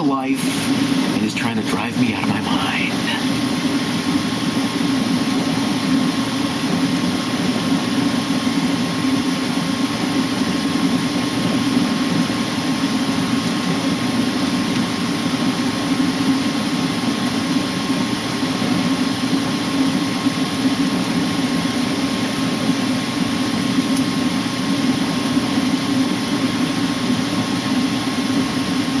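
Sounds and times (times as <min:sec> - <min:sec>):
furnace burner humming: 0:00.0 - 0:29.0.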